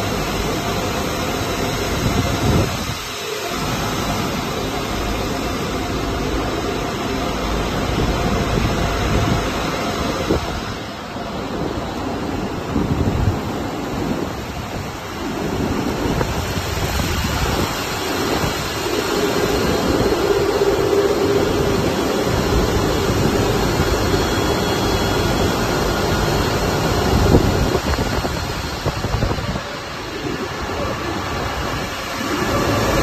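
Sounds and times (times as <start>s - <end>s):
cooling fans roaring: 0.0s - 33.0s
steady hum: 0.0s - 33.0s.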